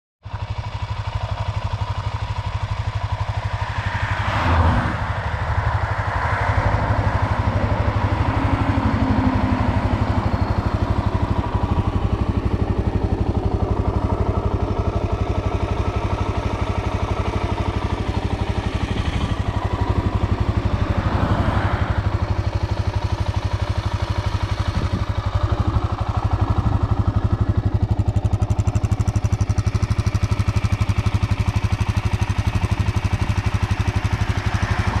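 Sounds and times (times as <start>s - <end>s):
motorcycle engine idling: 0.2s - 4.2s, 5.0s - 35.0s.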